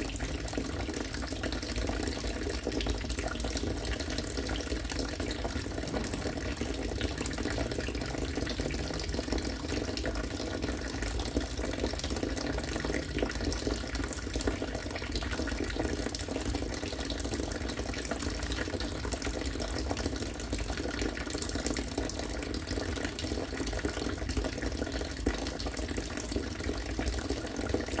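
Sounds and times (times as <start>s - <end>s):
water pouring and splashing: 0.0s - 28.0s.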